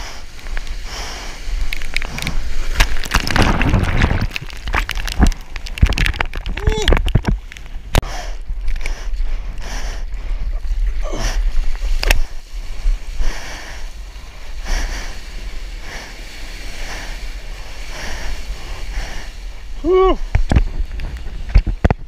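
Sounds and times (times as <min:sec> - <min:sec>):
water rushing along a surfboard: 0:00.0 - 0:22.0
wind buffeting the microphone: 0:00.0 - 0:22.0.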